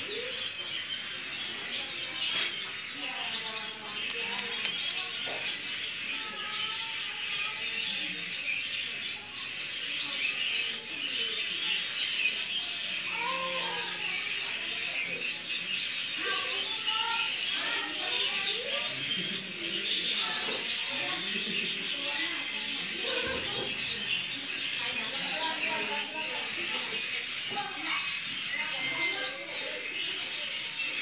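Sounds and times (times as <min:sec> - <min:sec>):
flock of small birds chirping: 0:00.0 - 0:31.0.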